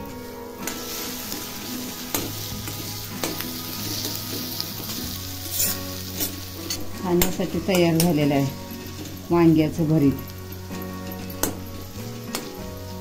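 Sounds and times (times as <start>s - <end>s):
food sizzling in oil: 0.0s - 13.0s
metal spoon stirring and scraping: 0.6s - 13.0s.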